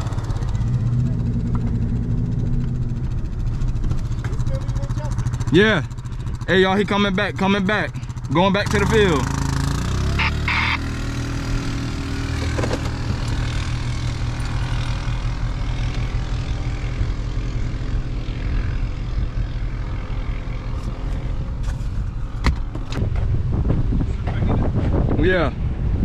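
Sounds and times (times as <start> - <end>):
pickup engine and road noise drone: 0.0 - 26.0.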